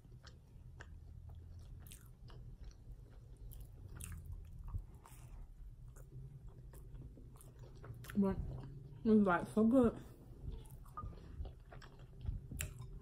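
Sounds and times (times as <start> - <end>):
chewing grilled cheese sandwich: 0.0 - 9.1, 10.3 - 13.0.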